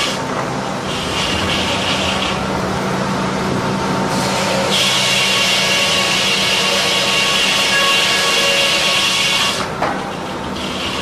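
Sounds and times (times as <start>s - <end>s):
circular saw cutting timber: 0.0s - 2.6s, 4.1s - 11.0s.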